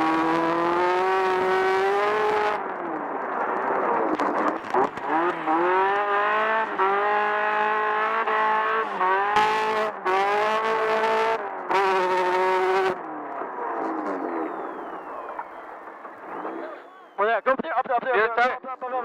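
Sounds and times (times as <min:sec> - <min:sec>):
buggy engine revving: 0:00.0 - 0:17.2.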